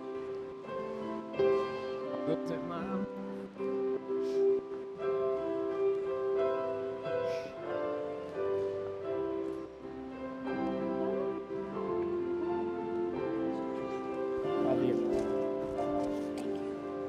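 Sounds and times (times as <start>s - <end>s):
instrumental music with long notes: 0.0s - 17.0s.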